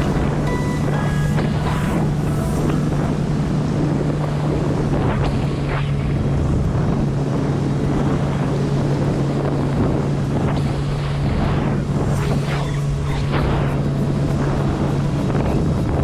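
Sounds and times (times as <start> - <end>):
jet ski engine drone: 0.0 - 16.0
water splashing against hull: 0.0 - 16.0
wind buffeting microphone: 0.0 - 16.0.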